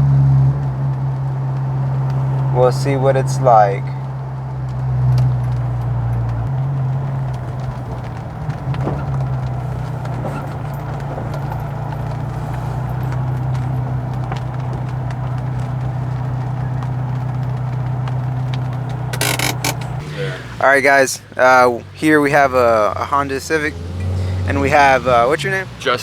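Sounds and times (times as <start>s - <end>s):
car engine running low drone: 0.0s - 26.0s
deeper rumble: 0.0s - 26.0s.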